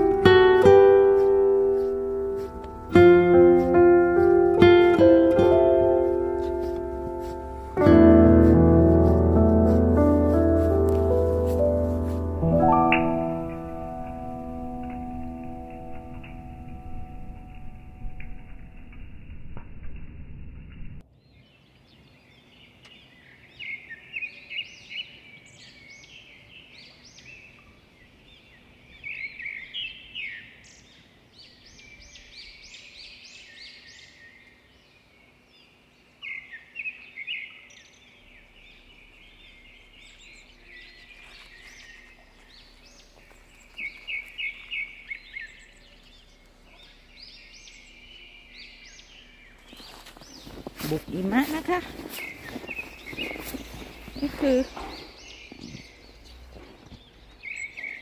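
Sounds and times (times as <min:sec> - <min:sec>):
small birds chirping: 0:00.0 - 0:18.4, 0:21.2 - 0:58.0.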